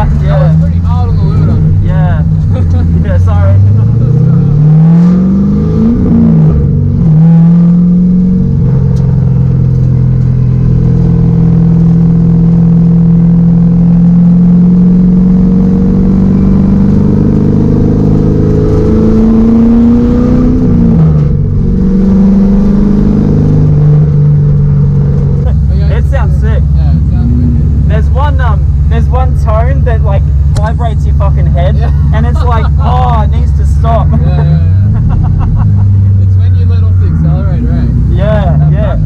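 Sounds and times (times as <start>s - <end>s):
car engine revving high: 0.0s - 39.0s.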